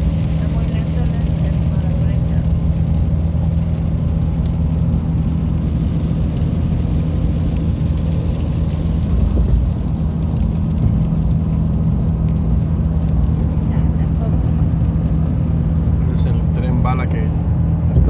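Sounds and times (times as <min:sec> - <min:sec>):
car road and engine drone: 0:00.0 - 0:18.0.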